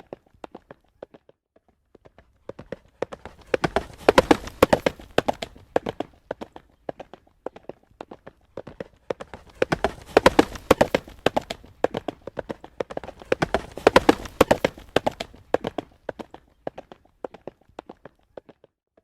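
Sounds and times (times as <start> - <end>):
horse hooves trotting on road: 0.0 - 19.0.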